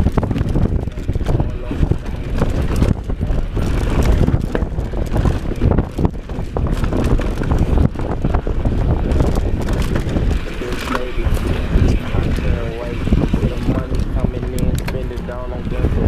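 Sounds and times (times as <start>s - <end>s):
bike rattling over bumps: 0.0s - 16.0s
bike tyres on dirt: 0.0s - 16.0s
wind buffeting microphone: 0.0s - 16.0s.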